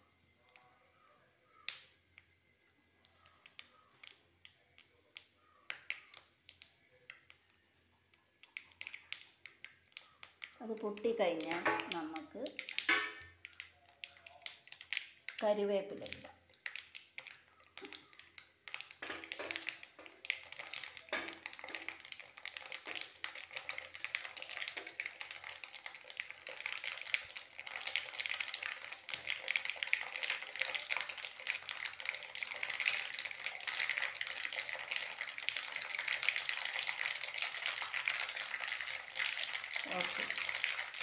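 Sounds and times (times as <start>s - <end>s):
seeds popping in hot oil: 0.1s - 41.0s
oil sizzling: 1.4s - 41.0s.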